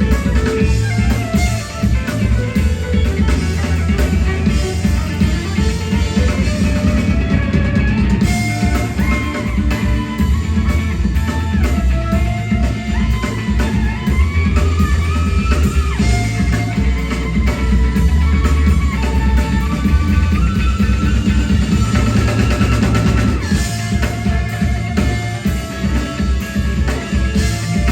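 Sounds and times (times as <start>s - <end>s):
electric guitar bending notes: 0.0s - 27.9s
live rock band: 0.0s - 27.9s.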